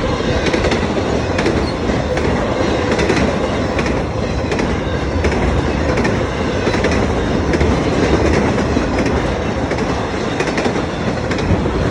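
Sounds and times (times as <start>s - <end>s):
train wheels clicking over rail joints: 0.0s - 11.9s.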